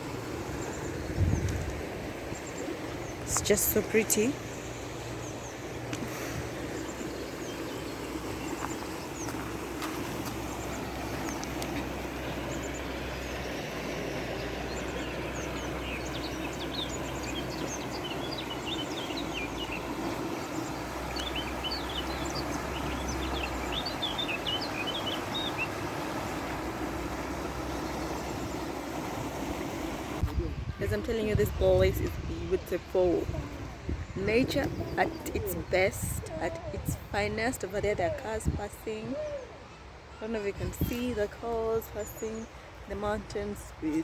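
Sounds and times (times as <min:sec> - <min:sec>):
small birds chirping: 0:00.0 - 0:30.8, 0:31.7 - 0:44.0.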